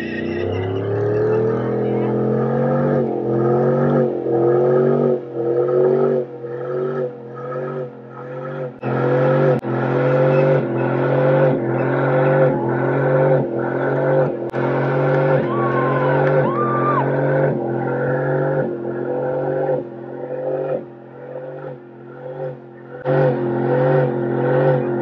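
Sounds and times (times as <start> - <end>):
tire spinning on pavement: 0.0 - 25.0
truck engine revving high: 0.0 - 25.0.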